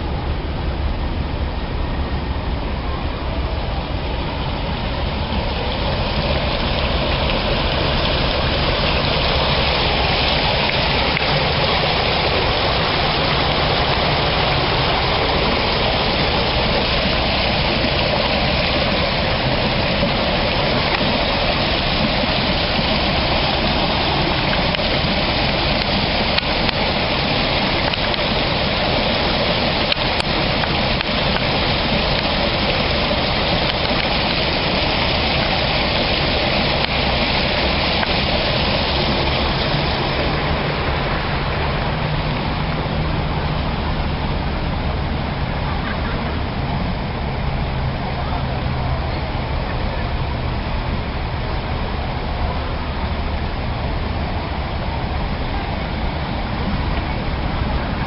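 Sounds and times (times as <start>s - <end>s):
low rumble: 0.0s - 58.0s
water gushing: 0.0s - 58.0s.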